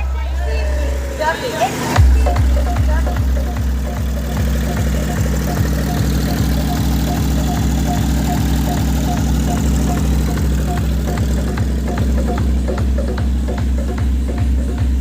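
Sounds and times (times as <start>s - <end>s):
loud dance music with heavy bass: 0.0s - 15.0s.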